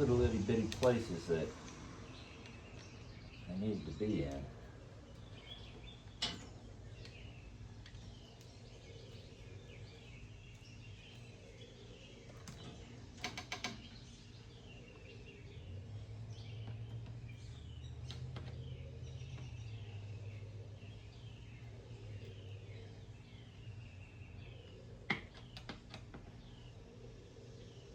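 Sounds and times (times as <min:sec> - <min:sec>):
birds chirping: 0:00.0 - 0:27.9
low steady hum: 0:00.0 - 0:27.9.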